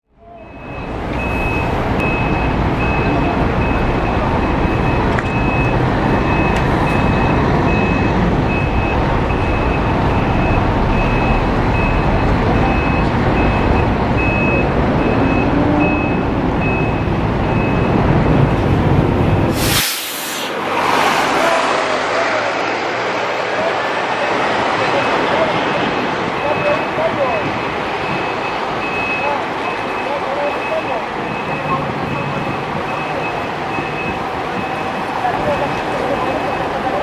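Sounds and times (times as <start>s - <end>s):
diesel engine running: 0.1s - 37.0s
reversing alarm beeps: 0.2s - 19.5s, 24.1s - 25.5s, 26.4s - 37.0s.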